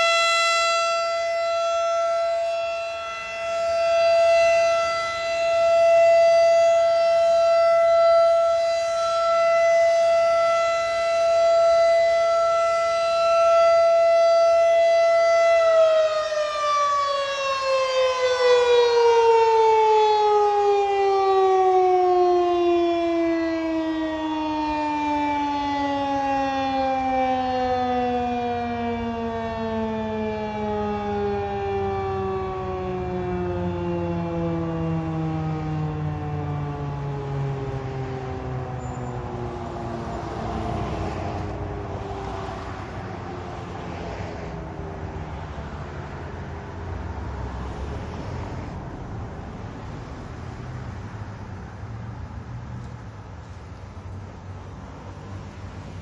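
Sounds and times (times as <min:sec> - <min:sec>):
outdoor warning siren: 0:00.0 - 0:56.0.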